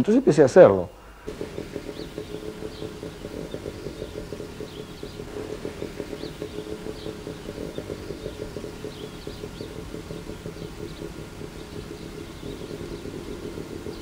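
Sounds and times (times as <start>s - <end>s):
small birds chirping: 0.2s - 14.0s
engine humming: 1.0s - 14.0s.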